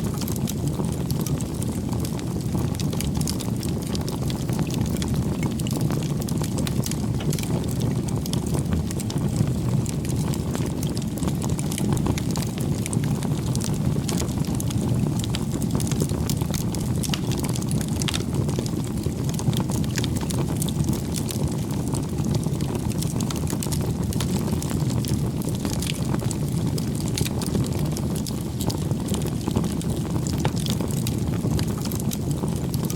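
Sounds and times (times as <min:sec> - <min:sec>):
wood crackling and popping: 0:00.0 - 0:32.9.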